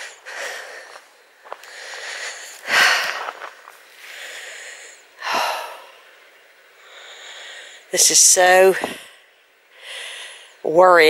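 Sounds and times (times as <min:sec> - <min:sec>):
heavy breathing: 0:00.0 - 0:07.9, 0:08.8 - 0:10.6.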